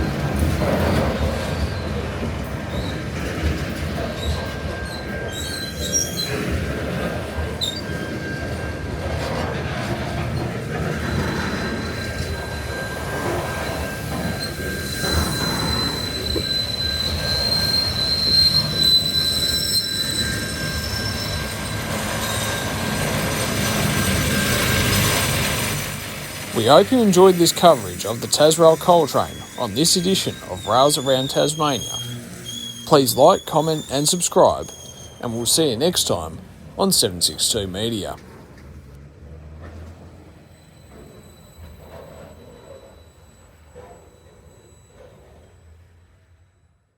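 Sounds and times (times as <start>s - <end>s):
train wagons rumbling: 0.0s - 45.8s
train wheels squealing: 0.0s - 46.9s.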